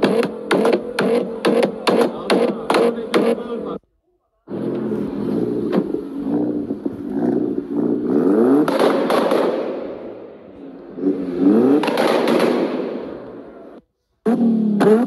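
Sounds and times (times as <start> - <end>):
car engine revving: 0.0 - 3.8, 4.5 - 15.0
exhaust crackles and pops: 0.0 - 3.8, 4.5 - 15.0.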